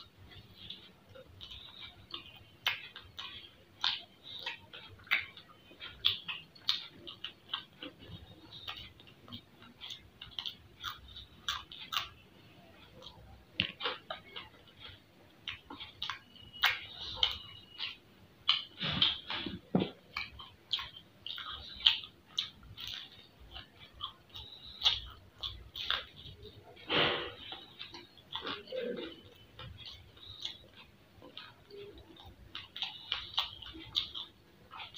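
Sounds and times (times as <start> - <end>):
crunchy chewing: 0.0 - 34.9
wet mouth clicks: 0.0 - 34.9.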